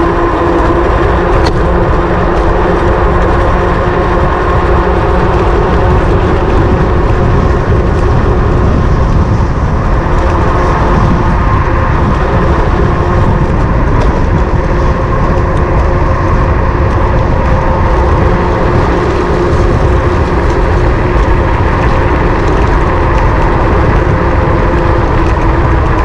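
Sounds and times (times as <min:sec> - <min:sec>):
electric motor whine: 0:00.0 - 0:26.0
wind rumble on microphone: 0:00.0 - 0:26.0.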